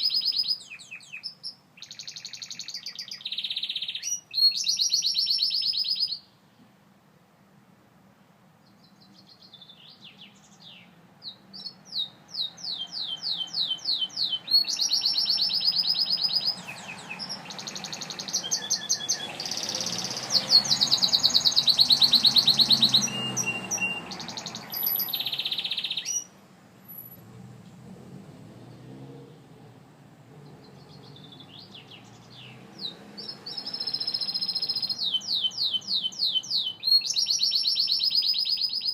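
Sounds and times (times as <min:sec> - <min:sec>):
canary singing trills: 0:00.0 - 0:06.3, 0:08.7 - 0:27.2, 0:30.4 - 0:38.9.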